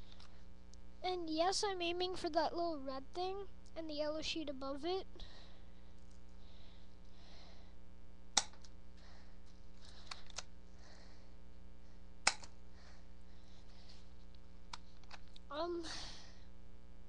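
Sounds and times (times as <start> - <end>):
mains hum: 0.0 - 17.0.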